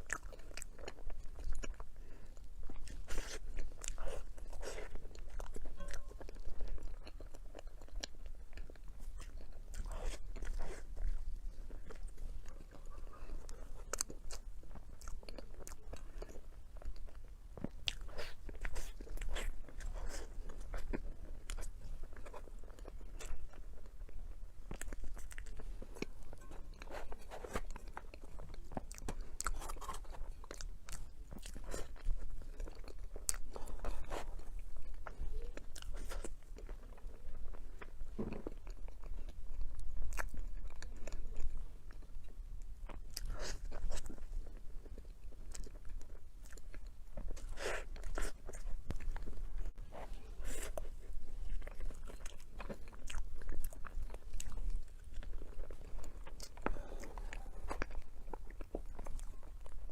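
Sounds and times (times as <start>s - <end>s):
chewing with crisp crunches: 0.0s - 59.9s
low steady hum: 0.0s - 59.9s.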